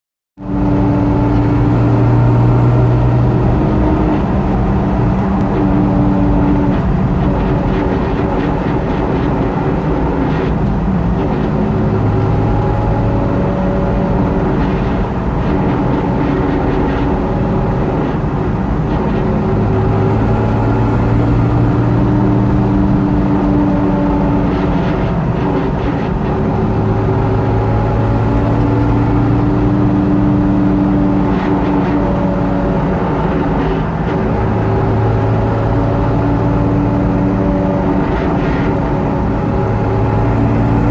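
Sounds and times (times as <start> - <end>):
differential whining: 0.4 - 40.9
vehicle rumble: 0.4 - 40.9.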